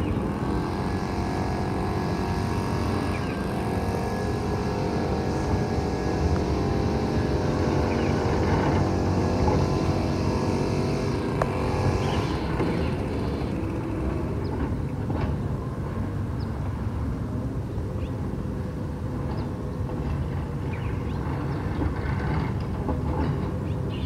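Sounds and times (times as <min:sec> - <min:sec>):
garbage truck diesel engine: 0:00.0 - 0:17.6, 0:18.2 - 0:24.0.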